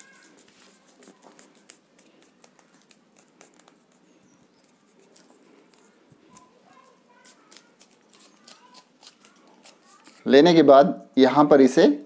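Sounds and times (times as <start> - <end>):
paper strips ticking and rustling: 0.0 - 10.3.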